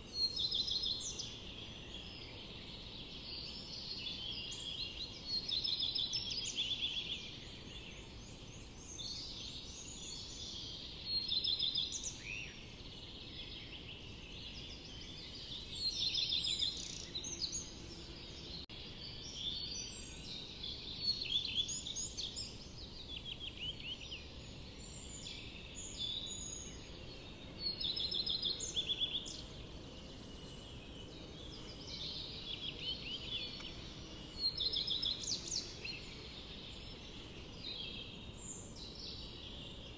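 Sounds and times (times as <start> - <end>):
low background hiss: 0.0 - 39.9
songbirds singing: 0.0 - 39.9.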